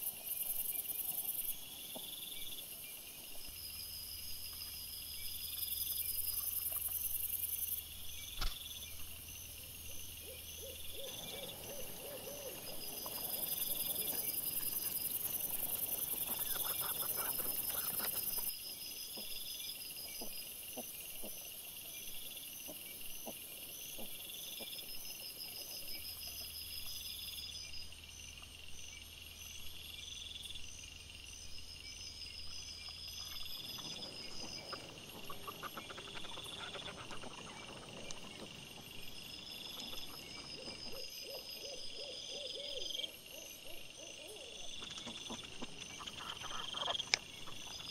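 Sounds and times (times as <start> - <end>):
night insects chirping: 0.0 - 47.9.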